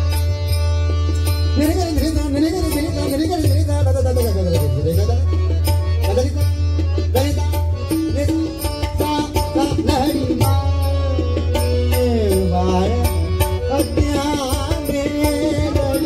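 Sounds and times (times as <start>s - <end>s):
harmonium melody: 0.0s - 16.0s
tabla rhythm: 0.0s - 16.0s.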